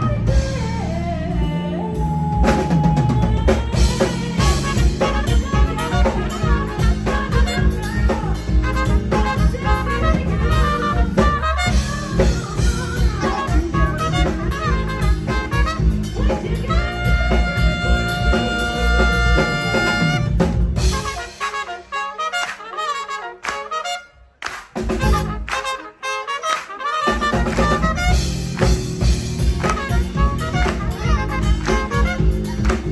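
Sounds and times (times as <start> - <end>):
live band playing: 0.0 - 32.9.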